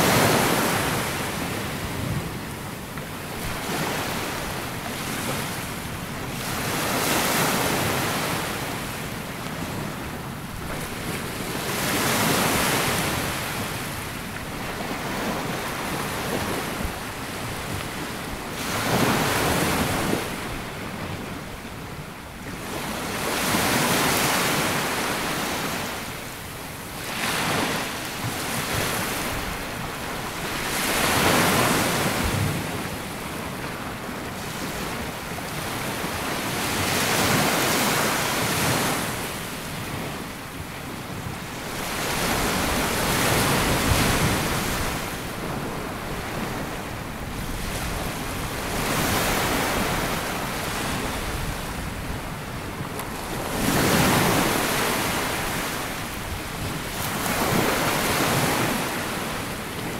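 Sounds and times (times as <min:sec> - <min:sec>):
waves washing up a sandy beach: 0:00.0 - 0:59.9.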